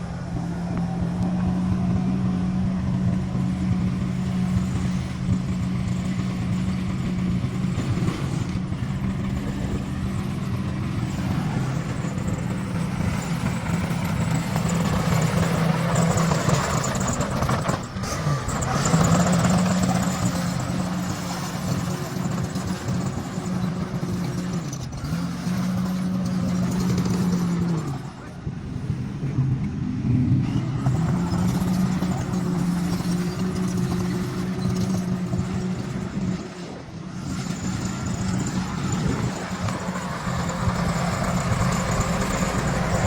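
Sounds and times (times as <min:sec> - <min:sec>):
bulldozer diesel engine droning: 0:00.0 - 0:43.0.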